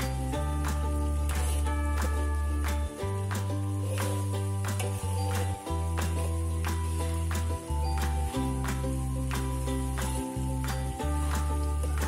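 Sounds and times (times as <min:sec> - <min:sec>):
ukulele music with percussive beat: 0:00.0 - 0:12.0.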